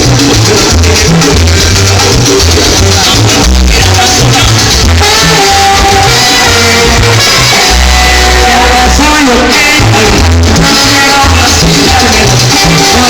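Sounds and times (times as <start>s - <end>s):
salsa music with singer: 0.0s - 13.0s.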